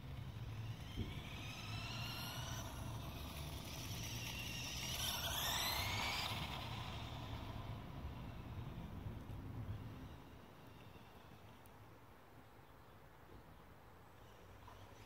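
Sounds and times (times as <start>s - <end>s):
toy motorcycle electric motor whine: 0.0s - 11.6s, 14.2s - 15.0s.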